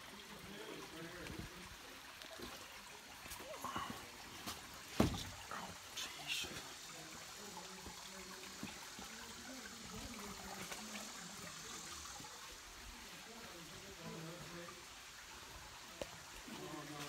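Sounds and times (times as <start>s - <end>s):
creek water trickling over rock: 0.0s - 17.0s.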